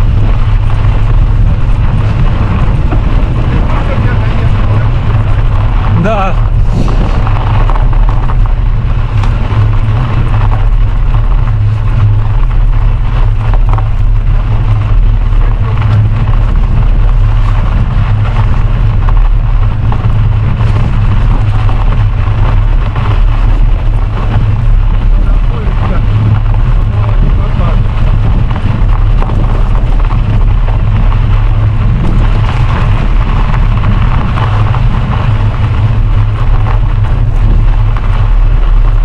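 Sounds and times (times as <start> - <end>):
bicycle tyre noise: 0.0 - 39.0
wind buffeting microphone: 0.0 - 39.0.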